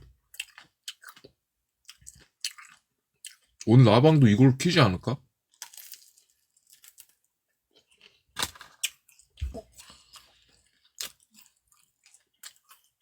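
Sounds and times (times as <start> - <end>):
person chewing and crunching: 0.3 - 3.8, 5.5 - 13.0.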